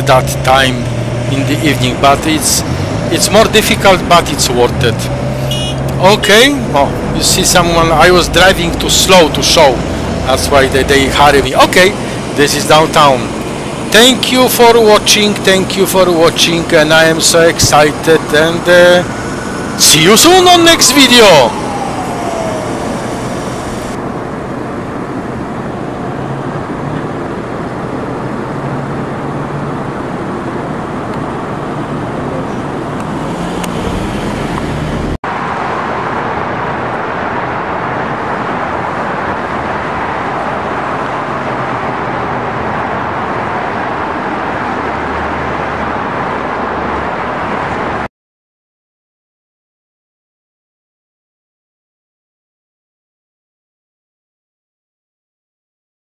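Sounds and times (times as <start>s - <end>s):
car engine hum: 0.0s - 48.0s
freeway traffic noise: 0.0s - 48.1s.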